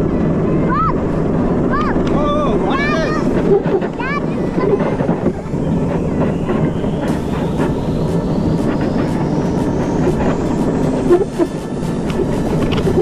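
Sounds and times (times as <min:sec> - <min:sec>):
cart rolling with steady rumble: 0:00.0 - 0:13.0
wheels clattering clicks: 0:00.0 - 0:13.0.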